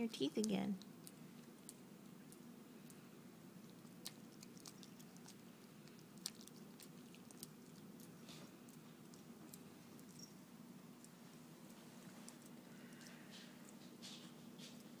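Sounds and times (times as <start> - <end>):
low steady hum: 0.0 - 15.0
puppy gnawing a chew: 0.4 - 15.0.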